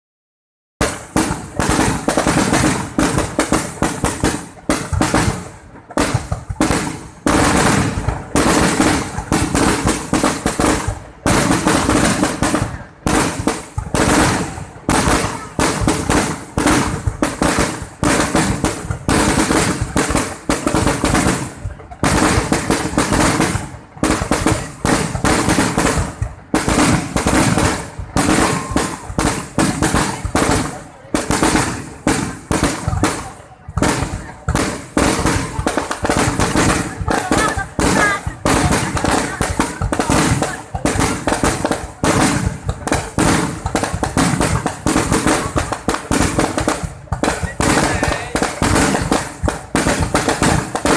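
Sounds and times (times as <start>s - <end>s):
fireworks bangs and crackles: 0.8s - 50.9s.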